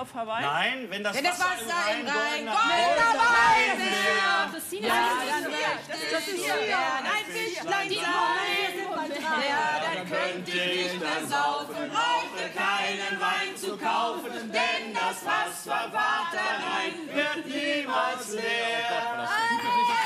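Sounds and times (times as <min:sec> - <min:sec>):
group of people singing: 0:01.2 - 0:20.0.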